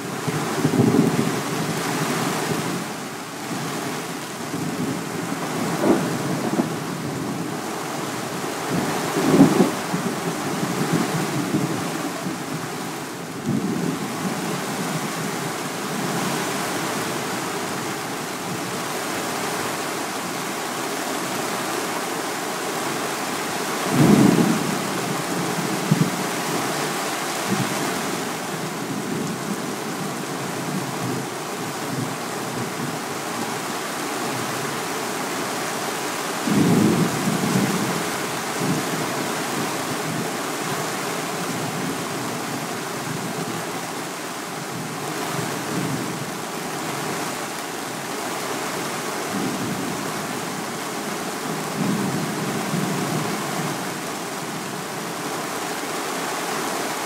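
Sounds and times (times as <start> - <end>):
heavy rain on a greenhouse: 0.0 - 57.0.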